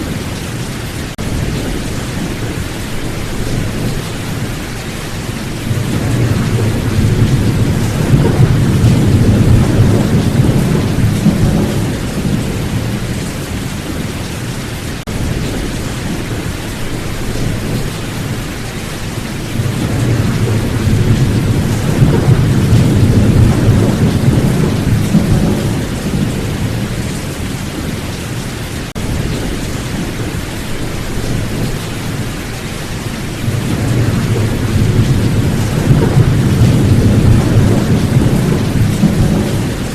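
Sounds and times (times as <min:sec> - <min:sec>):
steady rain: 0:00.0 - 0:39.9
rolling thunder: 0:01.2 - 0:14.2, 0:15.0 - 0:39.9.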